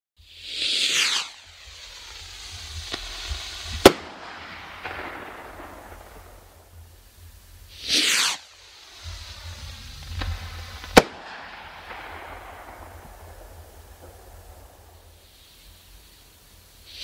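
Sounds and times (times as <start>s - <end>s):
rocket whoosh falling in pitch: 0.2s - 7.0s, 7.6s - 17.0s
firework hiss: 0.2s - 17.0s
firework bang: 0.3s - 17.0s
faint firework pops: 0.4s - 7.0s, 7.7s - 17.0s.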